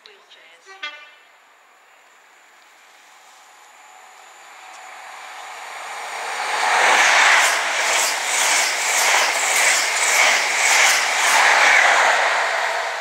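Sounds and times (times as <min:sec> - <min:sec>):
train passing at speed: 0:01.4 - 0:13.0
train wheels pulsing: 0:02.4 - 0:13.0.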